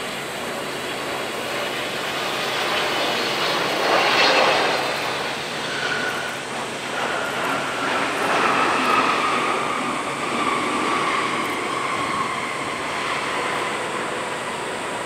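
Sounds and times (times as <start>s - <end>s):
jet airliner passing: 0.0s - 15.0s.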